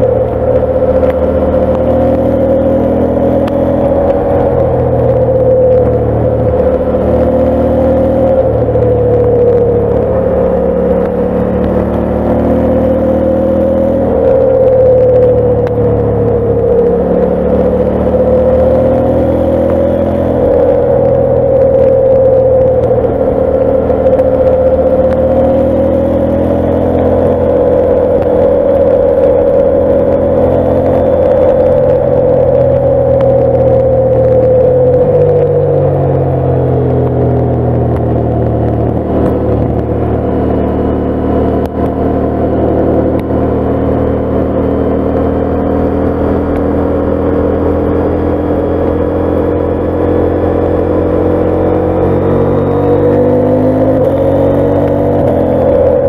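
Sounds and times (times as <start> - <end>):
motorcycle engine under load: 0.0 - 56.0.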